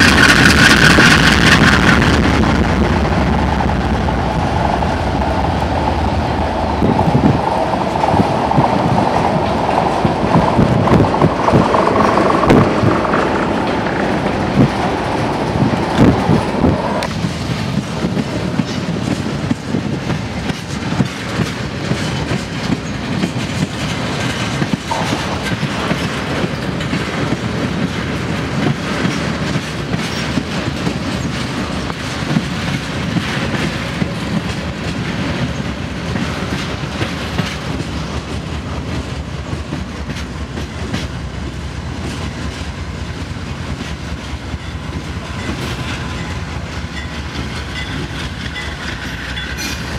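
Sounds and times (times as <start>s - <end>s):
train wheels clattering over rail joints: 0.0s - 3.2s, 5.5s - 49.9s.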